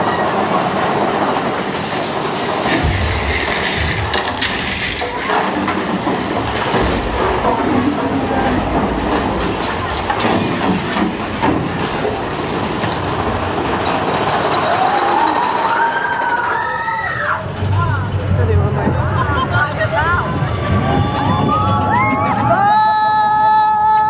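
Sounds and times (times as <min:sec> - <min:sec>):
roller coaster wheels clattering: 0:00.0 - 0:24.0.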